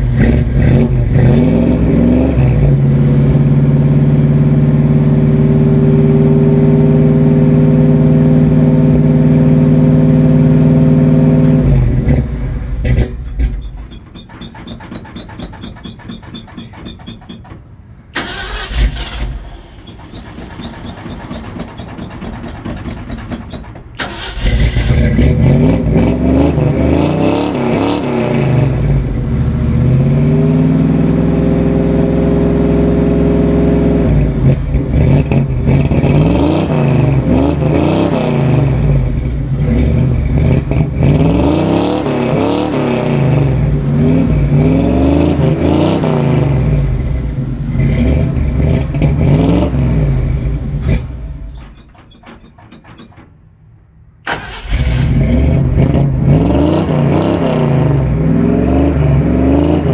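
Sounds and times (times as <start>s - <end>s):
car engine cranking and revving: 0.0s - 59.9s.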